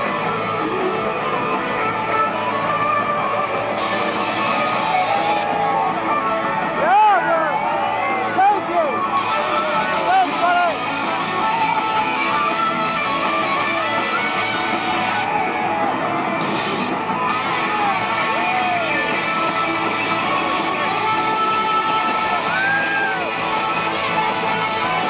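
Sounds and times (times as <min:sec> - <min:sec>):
electric guitars strumming: 0:00.0 - 0:25.0
live rock band playing: 0:00.0 - 0:25.0.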